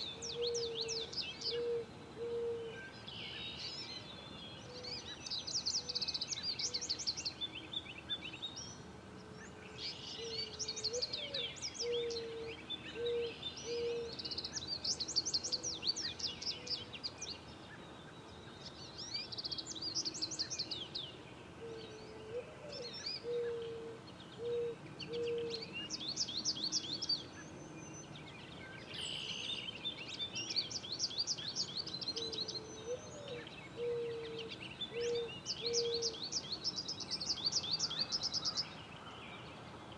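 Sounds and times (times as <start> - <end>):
outdoor background noise: 0.0 - 39.9
songbirds trilling: 0.0 - 39.9.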